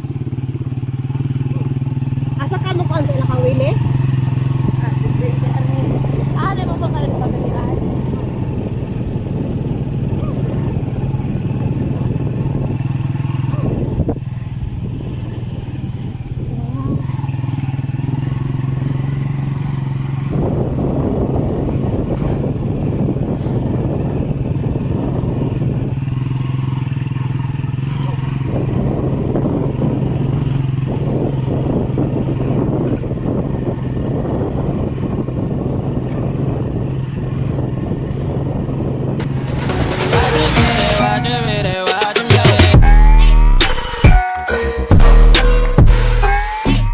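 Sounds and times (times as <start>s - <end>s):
road and wind noise: 0.0s - 41.9s
vehicle engine humming: 0.0s - 46.9s.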